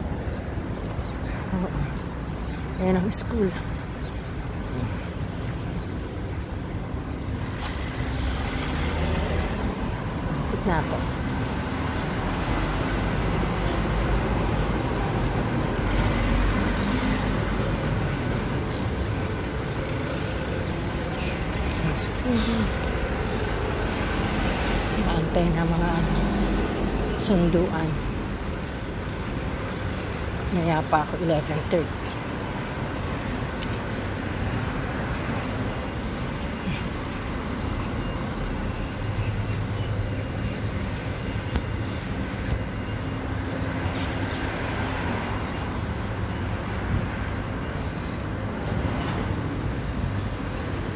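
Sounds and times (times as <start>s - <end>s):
street traffic: 0.0s - 50.9s.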